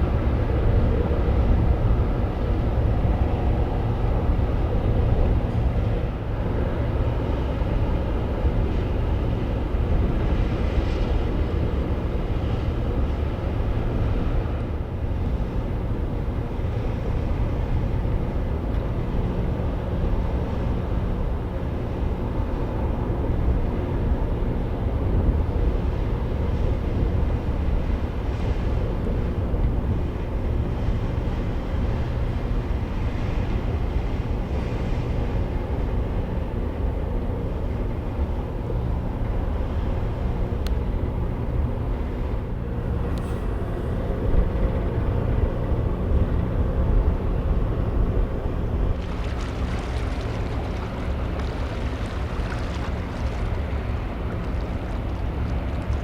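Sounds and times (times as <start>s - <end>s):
ship engines rumbling: 0.0s - 56.0s.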